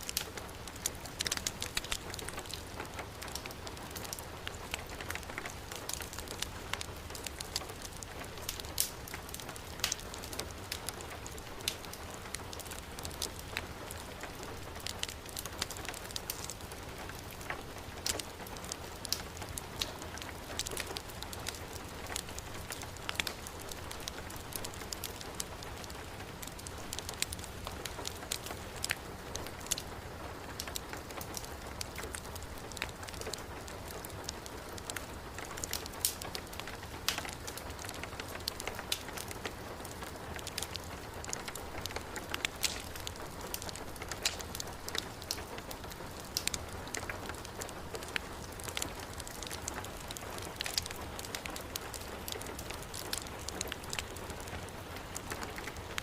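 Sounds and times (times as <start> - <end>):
heavy rain: 0.0 - 56.0
wood fire crackling: 0.0 - 56.0.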